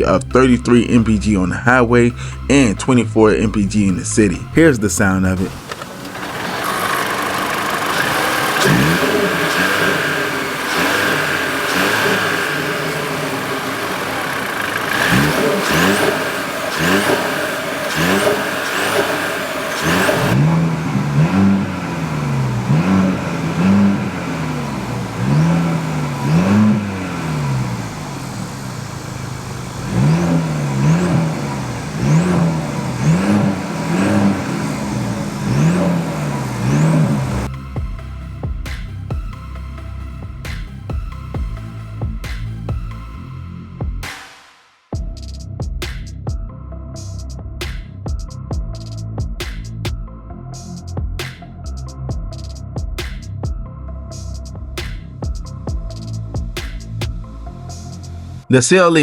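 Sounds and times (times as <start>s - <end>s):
car engine revving: 0.0s - 44.2s, 54.1s - 58.7s.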